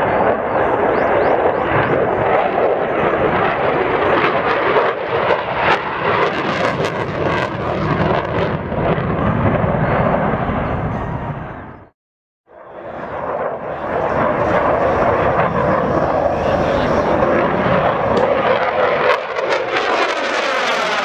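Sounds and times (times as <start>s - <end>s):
jet engine in afterburner: 0.0s - 21.0s.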